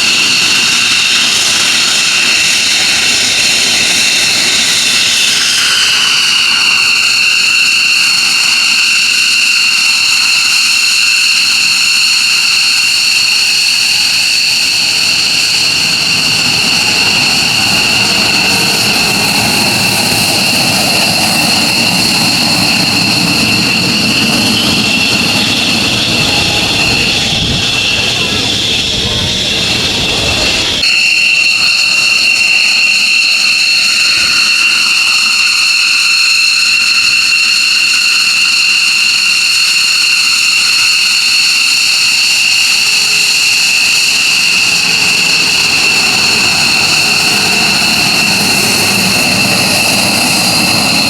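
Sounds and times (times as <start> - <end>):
jet engines whining and roaring: 0.0 - 51.0.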